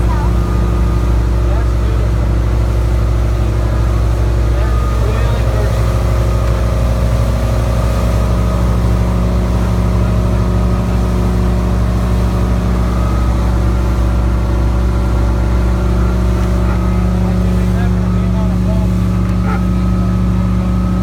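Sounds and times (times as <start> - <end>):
motorboat engine running: 0.0 - 21.0
wind and water rushing: 0.0 - 21.0.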